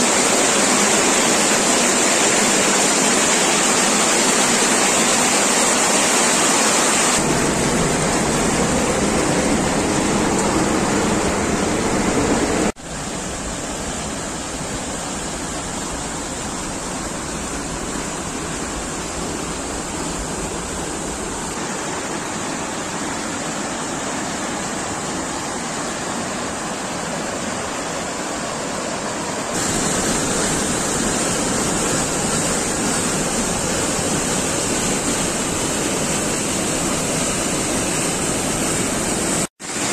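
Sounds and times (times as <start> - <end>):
river rushing over boulders: 0.0 - 39.9.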